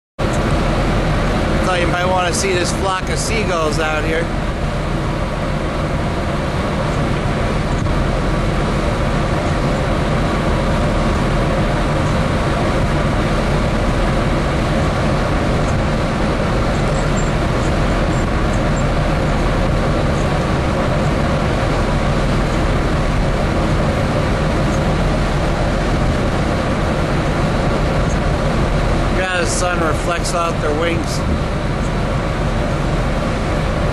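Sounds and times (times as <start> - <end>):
churning wake water: 0.2 - 33.9
dredge engines droning: 0.2 - 33.9.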